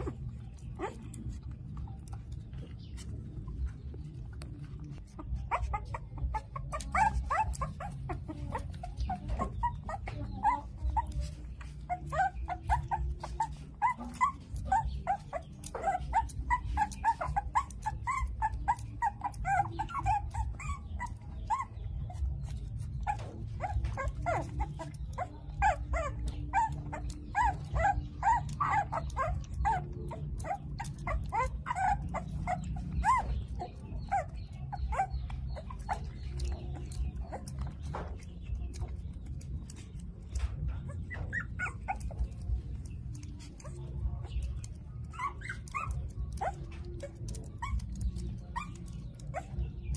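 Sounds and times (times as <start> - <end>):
puppies whining and yelping: 0.0 - 49.9.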